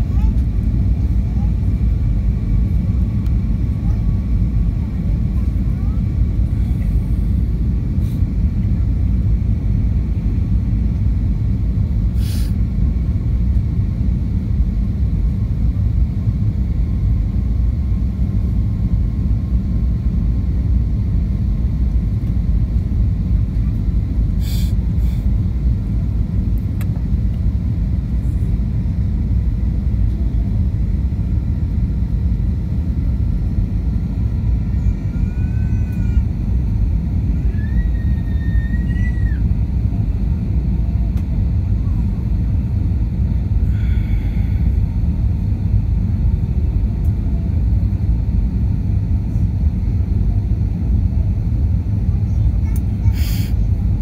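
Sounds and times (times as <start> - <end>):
airflow over airframe: 0.0 - 54.0
jet engine cabin rumble: 0.0 - 54.0.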